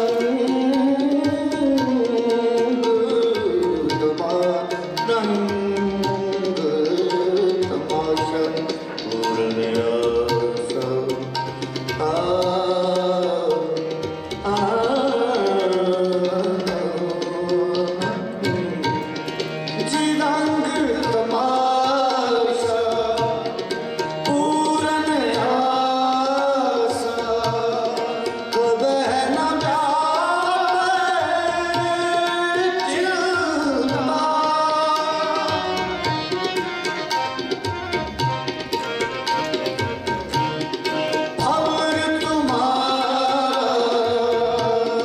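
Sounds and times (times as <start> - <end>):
harmonium: 0.0 - 45.0
tabla rhythm: 0.0 - 45.0.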